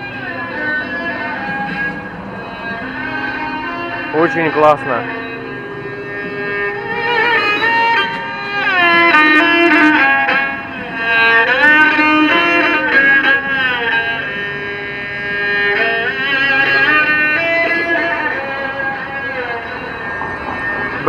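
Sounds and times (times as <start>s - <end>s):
bowed fiddle melody: 0.0s - 21.0s.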